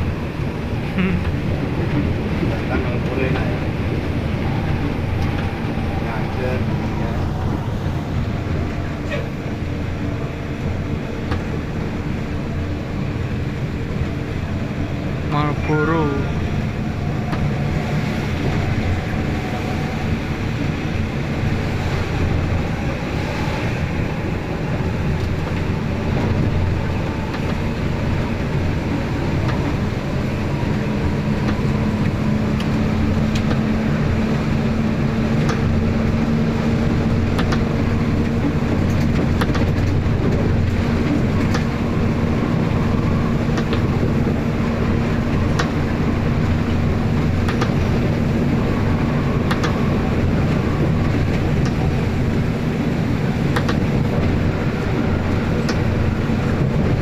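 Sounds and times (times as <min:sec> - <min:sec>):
bus engine drone: 0:00.0 - 0:57.0
road noise: 0:00.0 - 0:57.0.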